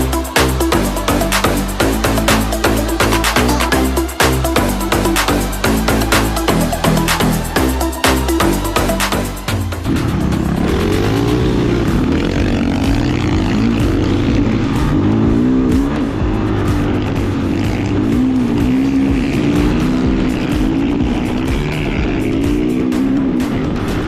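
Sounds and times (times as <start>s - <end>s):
background music: 0.0s - 24.0s
off-road vehicle engine revving: 0.0s - 24.0s.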